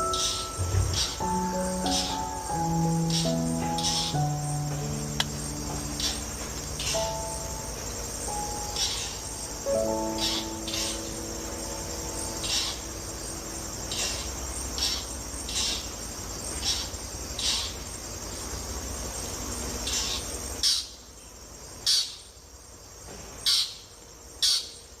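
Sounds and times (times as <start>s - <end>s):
low background rumble: 0.0s - 20.6s
insect trilling: 0.0s - 22.3s.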